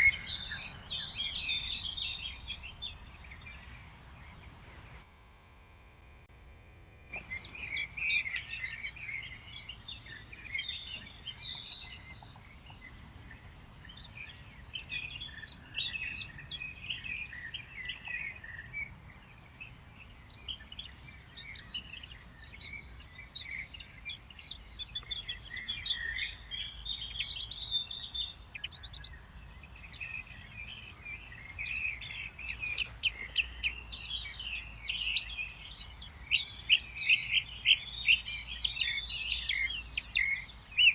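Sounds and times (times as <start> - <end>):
songbirds chirping and trilling: 0.0 - 5.0, 7.1 - 40.9.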